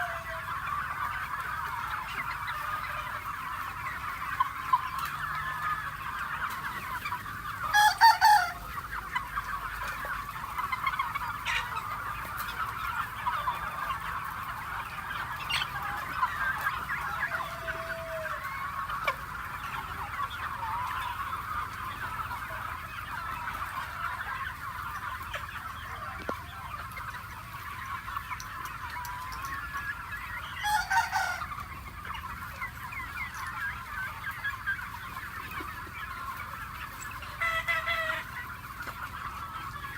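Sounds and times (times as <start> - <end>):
chickens clucking: 0.0 - 39.9
loud chicken calls: 0.0 - 39.9.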